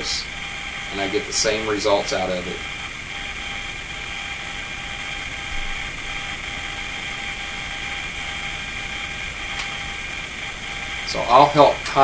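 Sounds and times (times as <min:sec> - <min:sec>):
mechanical hum: 0:00.0 - 0:12.0
thin high whine: 0:00.0 - 0:12.0.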